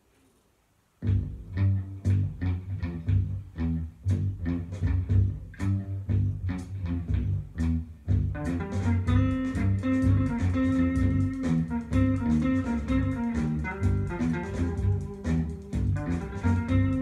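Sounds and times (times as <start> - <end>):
rock music through speakers: 1.0 - 17.0.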